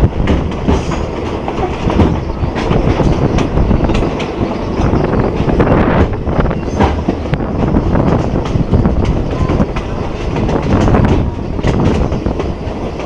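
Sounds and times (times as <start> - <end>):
train rumble and air rush: 0.0 - 13.0
wheels clacking over rail joints: 0.0 - 13.0.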